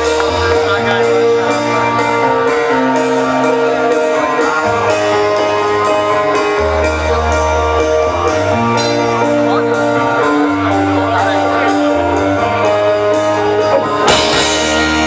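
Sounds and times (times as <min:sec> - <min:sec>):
bass notes: 0:00.0 - 0:15.0
keyboard: 0:00.0 - 0:15.0.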